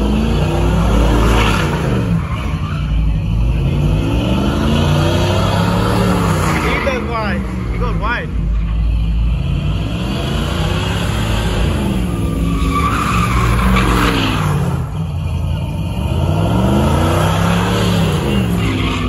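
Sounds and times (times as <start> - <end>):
truck engine revving: 0.0 - 19.0
tyres squealing on asphalt: 0.0 - 19.0.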